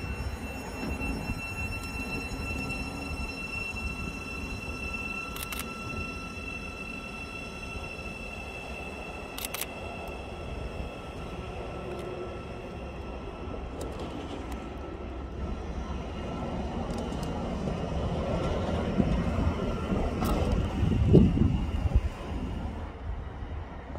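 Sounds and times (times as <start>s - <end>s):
train high whine: 0.0s - 23.9s
train rumble: 0.0s - 23.9s.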